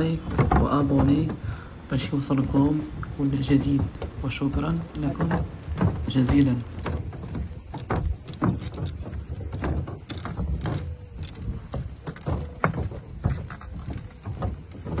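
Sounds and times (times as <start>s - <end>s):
knocks and clicks: 0.0s - 15.0s
wind buffeting microphone: 0.0s - 15.0s.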